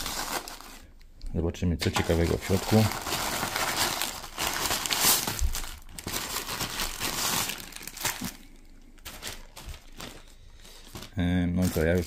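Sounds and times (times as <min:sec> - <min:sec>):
packaging crinkling and rustling: 0:00.0 - 0:00.9, 0:01.8 - 0:12.0.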